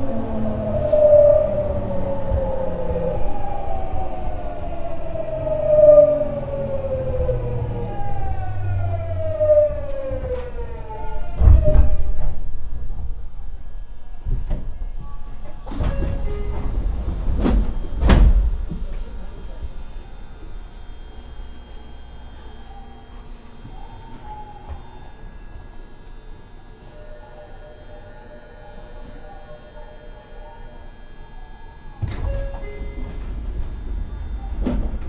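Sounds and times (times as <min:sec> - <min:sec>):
train motors whining under braking: 0:00.0 - 0:35.0.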